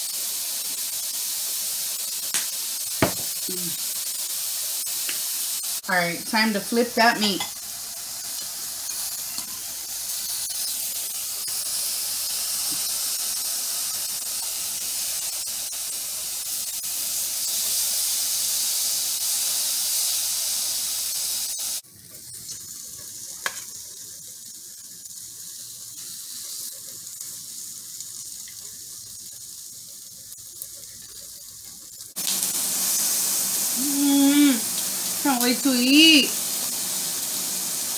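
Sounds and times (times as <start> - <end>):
steaks sizzling on a grill: 0.0 - 37.9.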